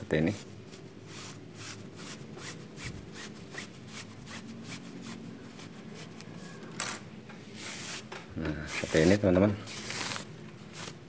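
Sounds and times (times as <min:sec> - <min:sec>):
fabric rustling and rubbing: 0:00.2 - 0:06.6, 0:07.4 - 0:08.1, 0:08.7 - 0:11.0.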